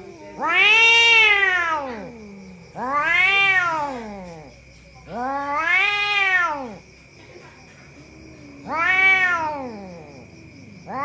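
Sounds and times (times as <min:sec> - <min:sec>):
cat yowling: 0:00.0 - 0:06.8, 0:08.3 - 0:11.0.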